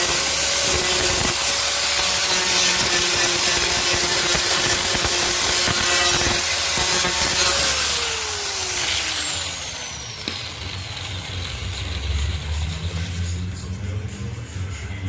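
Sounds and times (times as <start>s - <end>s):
motor winding down whine: 0.0s - 13.3s
power sander: 0.0s - 13.3s.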